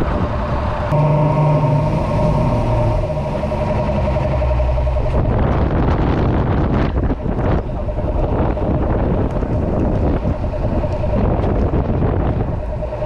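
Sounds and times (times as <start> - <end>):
outboard motors running: 0.0 - 13.0
wind buffeting microphone: 0.0 - 13.0.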